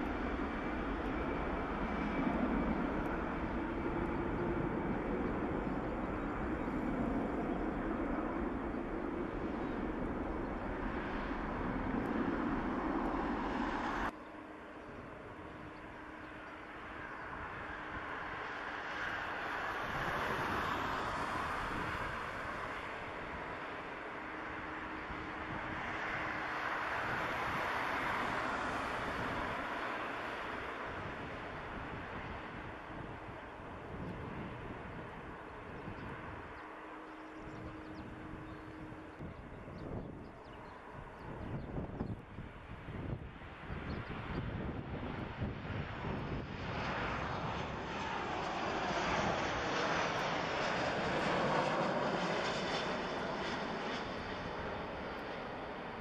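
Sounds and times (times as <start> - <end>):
jet engines drone: 0.0 - 56.0.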